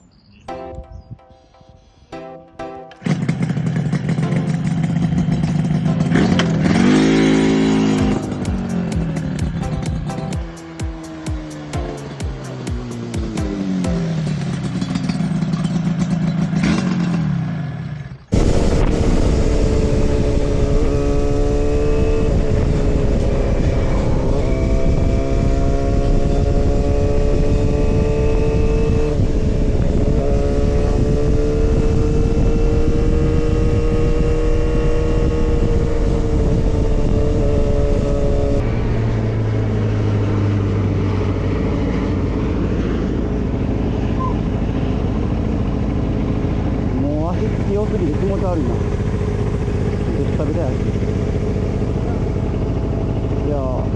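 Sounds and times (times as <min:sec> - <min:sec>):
motorcycle engine running: 0:02.8 - 0:53.9
wind and road rush: 0:03.0 - 0:53.9.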